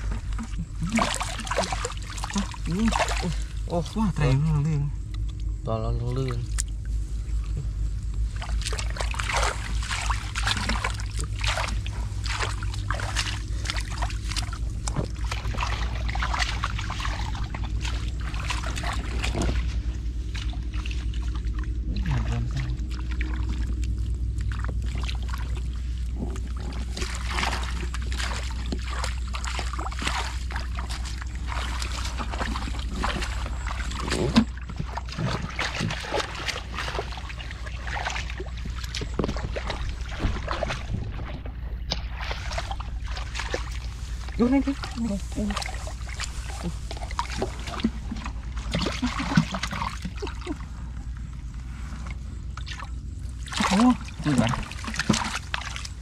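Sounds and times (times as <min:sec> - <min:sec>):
hands splashing in muddy water: 0:00.0 - 0:04.0, 0:08.3 - 0:56.0
low rumble: 0:00.0 - 0:56.0.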